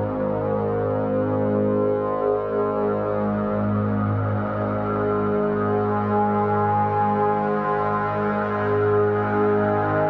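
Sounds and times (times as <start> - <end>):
ambient music with held chords: 0.0 - 10.0.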